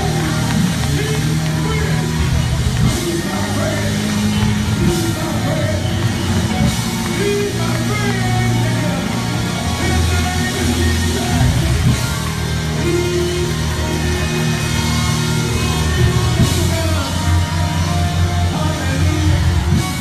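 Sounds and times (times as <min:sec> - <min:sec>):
voices singing along: 0:00.0 - 0:20.0
worship band music: 0:00.0 - 0:20.0.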